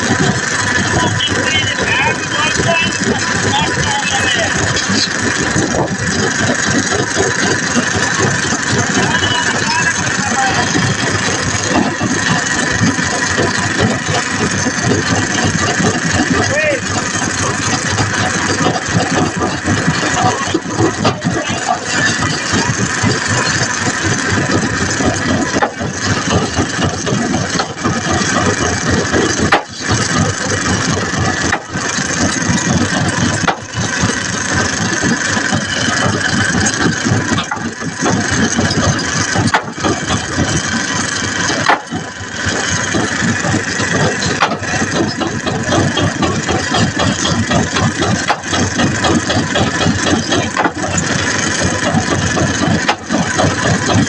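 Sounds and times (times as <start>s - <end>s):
engine running: 0.0s - 54.0s
rattling: 0.0s - 54.0s.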